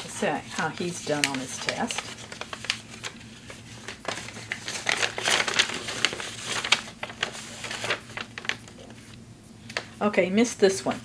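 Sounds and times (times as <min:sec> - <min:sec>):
paper crinkling and rustling: 0:00.0 - 0:10.0.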